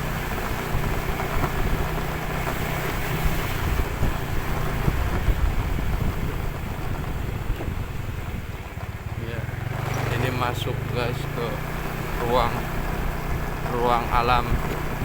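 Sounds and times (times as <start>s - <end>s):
wind rumbling on microphone: 0.0s - 10.6s, 11.3s - 15.0s
vehicle engine running: 0.0s - 15.0s.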